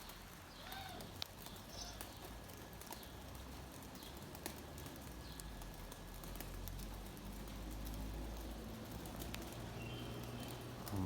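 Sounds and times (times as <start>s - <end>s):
light rain patter: 0.0s - 11.0s.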